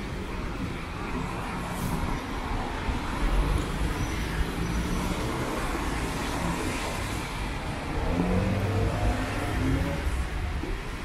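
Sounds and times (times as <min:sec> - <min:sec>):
cars passing on wet road: 0:00.0 - 0:11.0.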